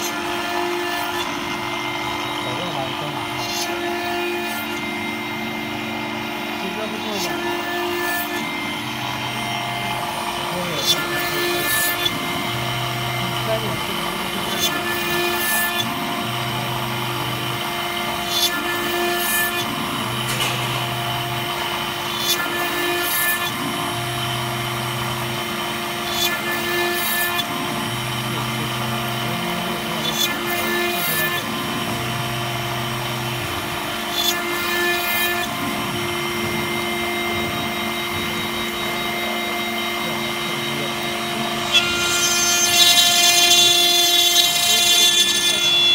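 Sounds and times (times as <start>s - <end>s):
cnc router spindle whine: 0.0s - 45.9s
high-pitched metal cutting noise: 0.0s - 45.9s.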